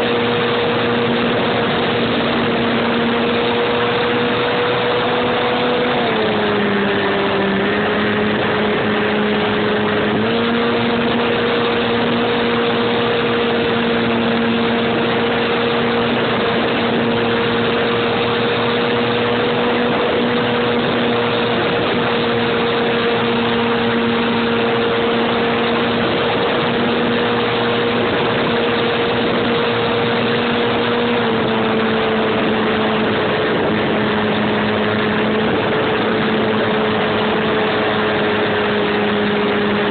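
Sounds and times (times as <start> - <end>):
model airplane motor droning: 0.0 - 39.9
rush of wind noise: 0.0 - 39.9.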